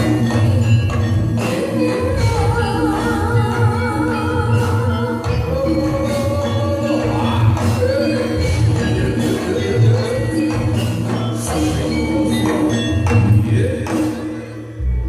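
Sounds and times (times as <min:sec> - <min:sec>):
person singing with vibrato: 0:00.0 - 0:15.0
ringing metallophones: 0:00.0 - 0:15.0.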